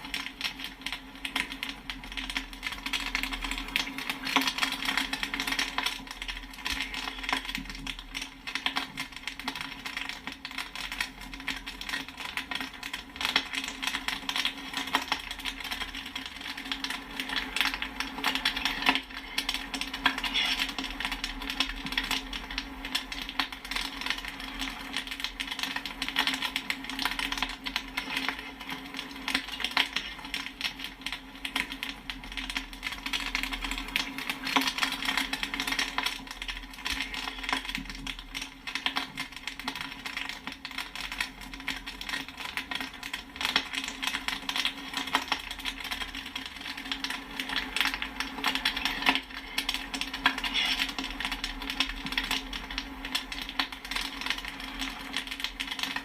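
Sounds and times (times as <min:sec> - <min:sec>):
popcorn popping: 0:00.0 - 0:56.0.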